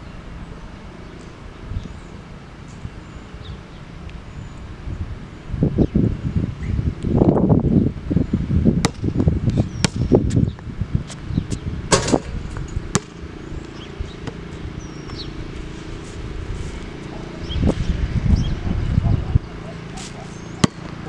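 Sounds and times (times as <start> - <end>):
wind buffeting microphone: 2.8 - 21.0.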